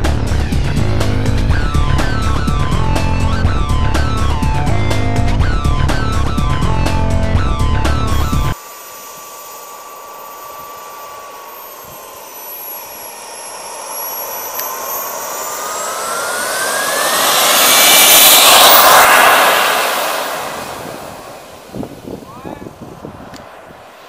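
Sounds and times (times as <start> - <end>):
model jet engine whining: 0.3 - 24.0.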